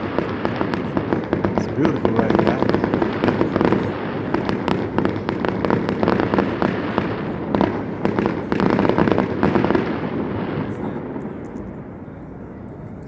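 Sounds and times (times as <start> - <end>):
fireworks popping and crackling: 0.0 - 11.9.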